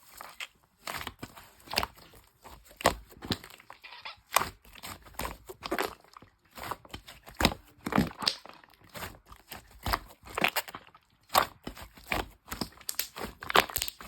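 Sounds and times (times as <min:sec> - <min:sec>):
crinkling and crunching: 0:00.0 - 0:14.0.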